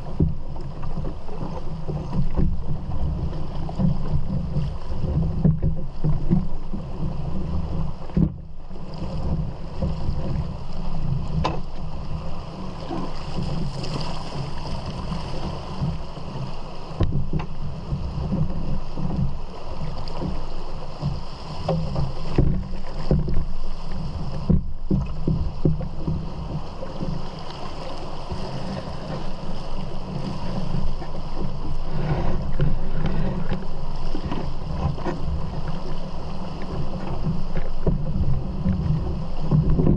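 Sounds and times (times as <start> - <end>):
water rushing over rapids: 0.0 - 39.9
wind rumble on microphone: 0.0 - 39.9.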